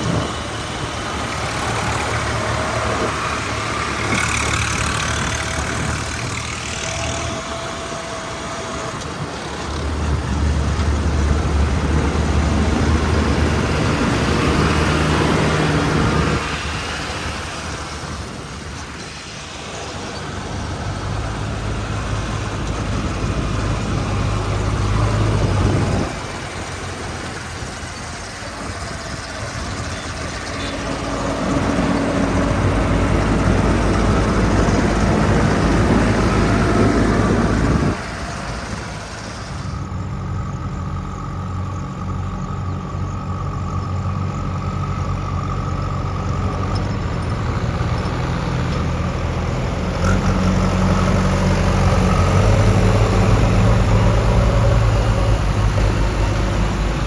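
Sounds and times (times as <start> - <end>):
heavy diesel engines working: 0.0 - 57.0.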